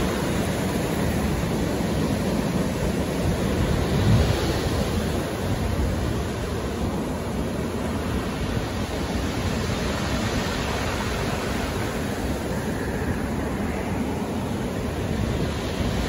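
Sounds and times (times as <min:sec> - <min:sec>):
surf on pebble beach: 0:00.0 - 0:16.0.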